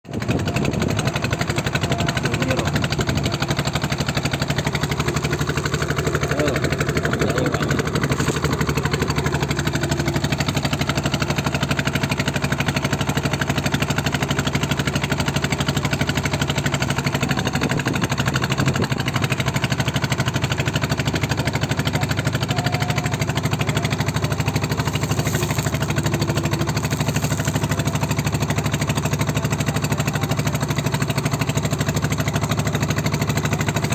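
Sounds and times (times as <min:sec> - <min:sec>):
small engine running steadily: 0:00.0 - 0:33.9.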